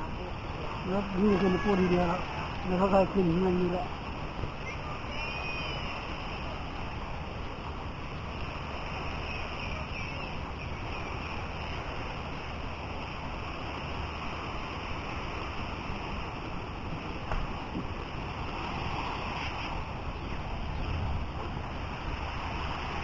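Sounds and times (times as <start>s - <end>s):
sea surf washing: 0.0s - 23.0s.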